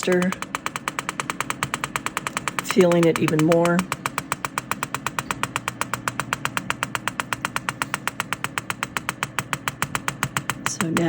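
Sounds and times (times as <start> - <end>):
machine clicking rapidly: 0.0 - 11.0.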